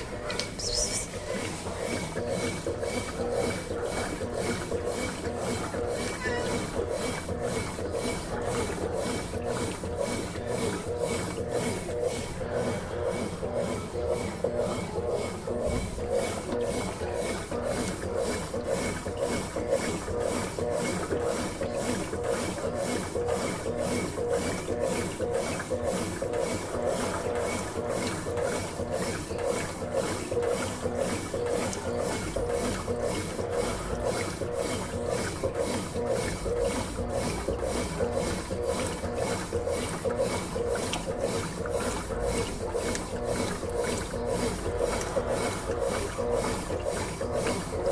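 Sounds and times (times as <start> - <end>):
motor hum: 0.0 - 47.9
washing machine churning: 0.0 - 47.9.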